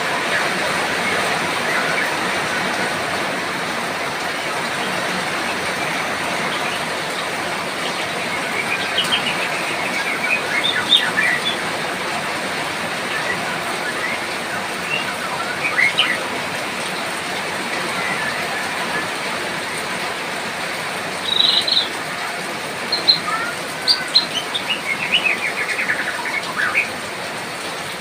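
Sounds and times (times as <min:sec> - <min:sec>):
rain hiss: 0:00.0 - 0:28.0.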